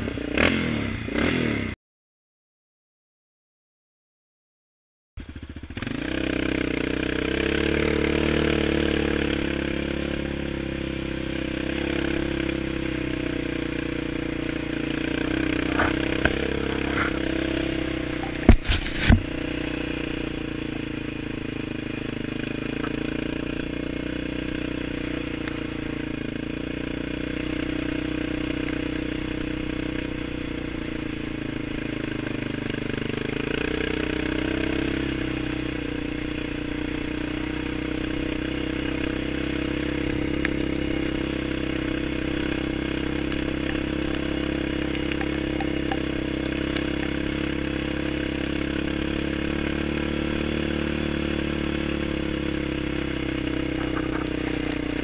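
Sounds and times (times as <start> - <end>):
quad engine running: 0.0 - 1.8, 5.2 - 55.0.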